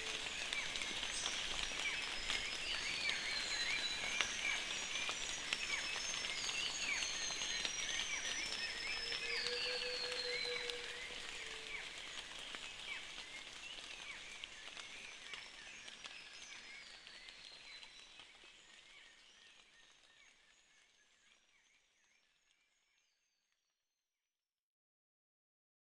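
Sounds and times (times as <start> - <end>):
light rain hiss: 0.0 - 22.1.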